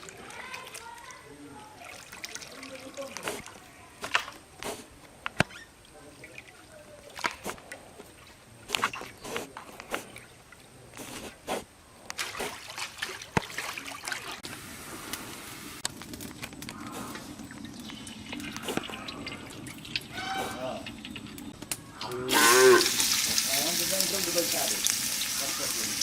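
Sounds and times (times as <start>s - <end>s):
water sloshing and splashing: 0.0s - 14.6s, 15.8s - 22.2s.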